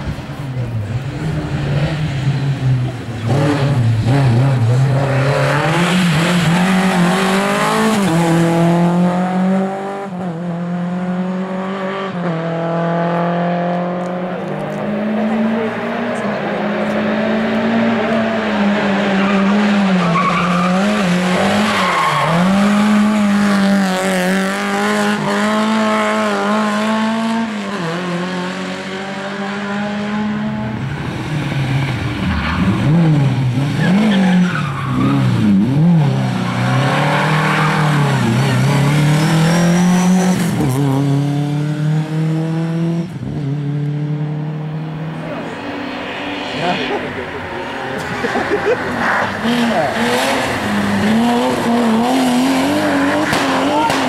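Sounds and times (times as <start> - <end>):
rally car engines revving high: 0.0 - 54.0.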